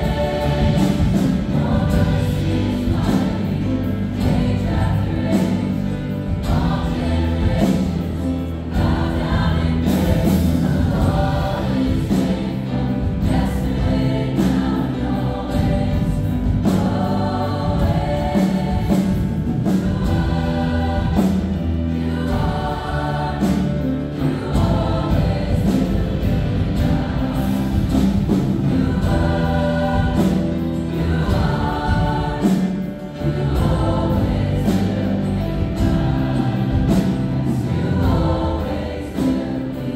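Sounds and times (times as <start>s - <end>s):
choir singing gospel song: 0.0s - 39.9s.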